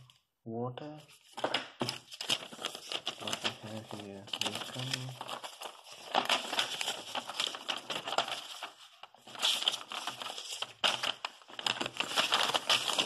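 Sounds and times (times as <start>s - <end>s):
paper rustling and crinkling: 1.1s - 13.0s.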